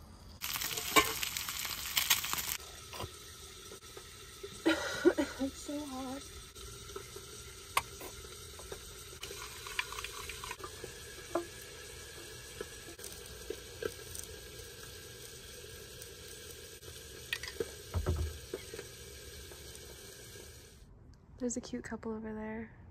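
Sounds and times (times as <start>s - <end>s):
steady hiss: 0.4s - 20.8s.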